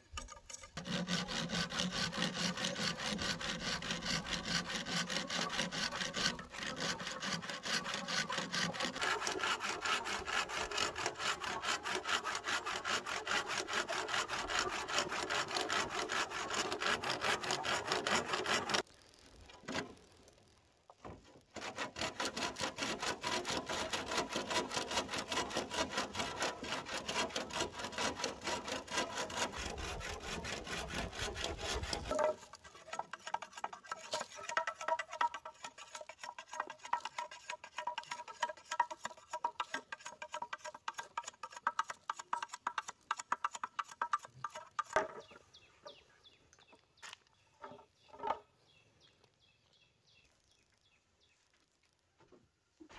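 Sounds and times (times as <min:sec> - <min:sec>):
hand saw cutting bamboo: 0:00.0 - 0:18.8, 0:21.2 - 0:45.4.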